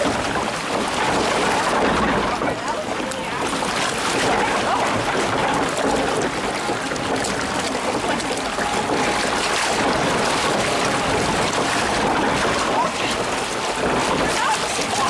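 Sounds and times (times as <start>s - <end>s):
water running along a flume: 0.0s - 15.0s.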